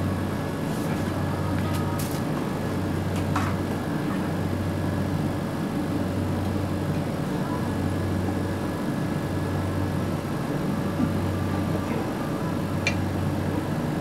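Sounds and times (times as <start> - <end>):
constant low hum: 0.0 - 14.0
extractor hood fan drone: 0.0 - 14.0.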